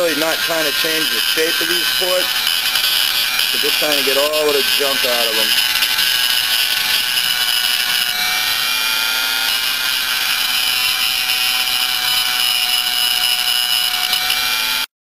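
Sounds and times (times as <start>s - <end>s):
burr rasping on metal: 0.0s - 14.9s
rotary tool high whine: 0.0s - 14.9s.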